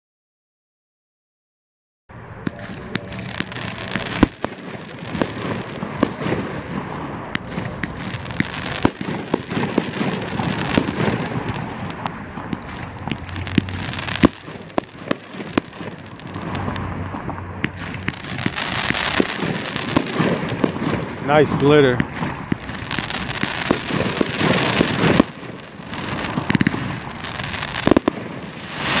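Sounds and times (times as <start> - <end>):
fireworks bangs: 2.1 - 29.0
fireworks crackling: 2.1 - 29.0.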